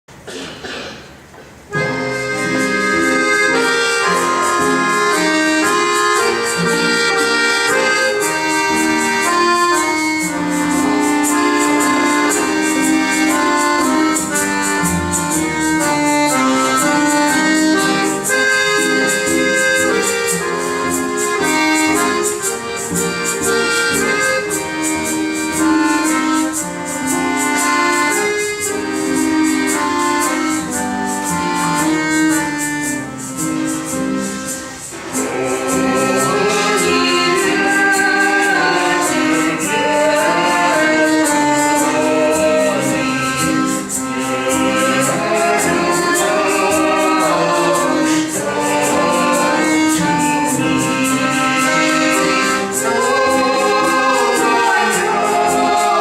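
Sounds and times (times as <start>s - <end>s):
accordion: 0.1s - 56.0s
folk ensemble music: 0.1s - 56.0s.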